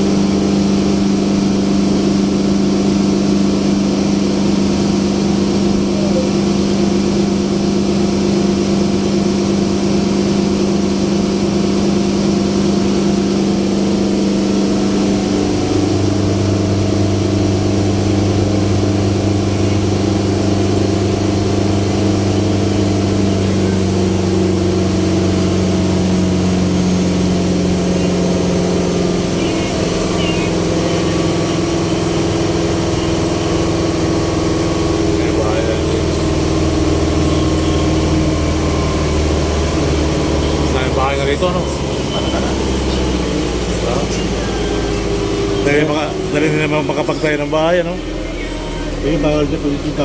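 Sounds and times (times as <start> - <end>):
boat engine running: 0.0 - 50.0
deep hum: 0.0 - 50.0.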